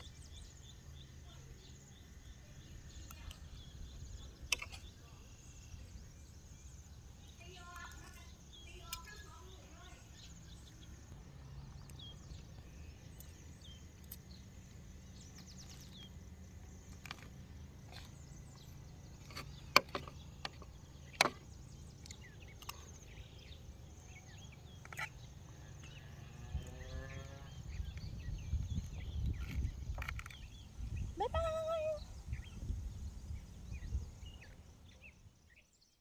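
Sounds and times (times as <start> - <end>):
faint rural background: 0.0 - 36.0.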